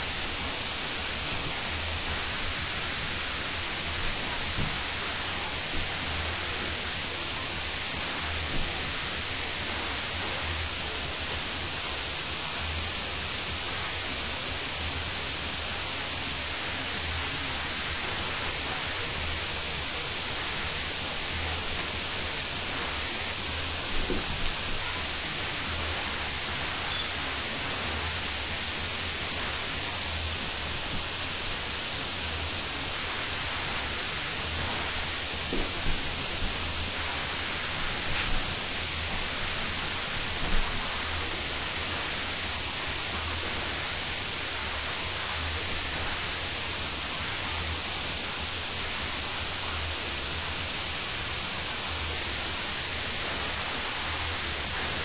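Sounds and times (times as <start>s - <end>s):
recording hiss: 0.0s - 55.0s.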